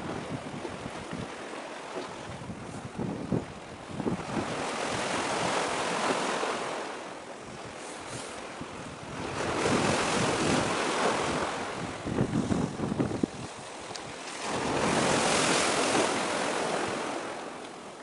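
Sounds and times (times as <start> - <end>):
wind buffeting microphone: 0.0 - 6.4, 7.4 - 17.3
waves washing on shore: 0.0 - 18.0.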